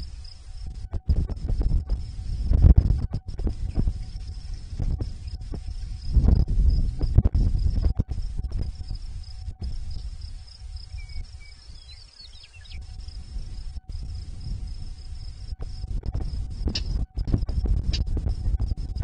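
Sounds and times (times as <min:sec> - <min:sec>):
high-pitched insect trill: 0:00.0 - 0:19.0
wind rumbling on microphone: 0:00.0 - 0:19.0.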